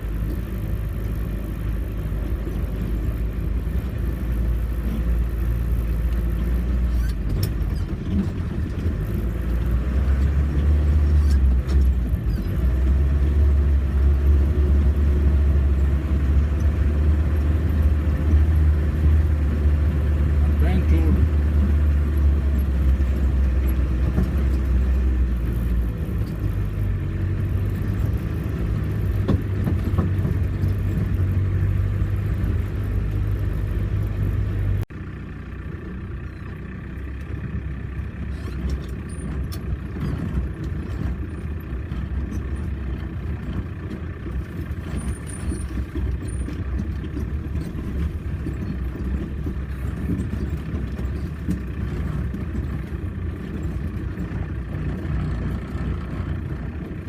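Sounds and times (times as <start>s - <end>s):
engine low rumble: 0.0s - 57.0s.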